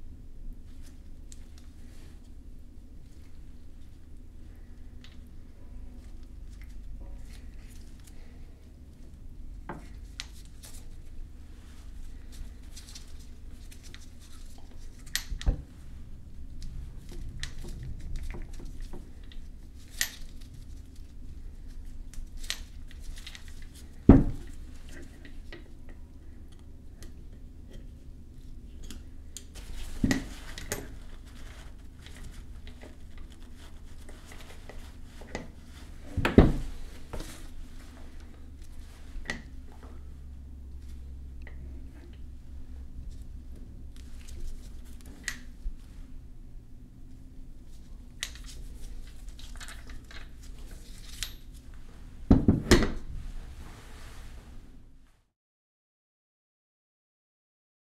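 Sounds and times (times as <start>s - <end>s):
steady low hum: 0.0s - 55.2s
small rubbing noises: 0.6s - 26.5s, 27.1s - 46.3s, 47.0s - 52.3s.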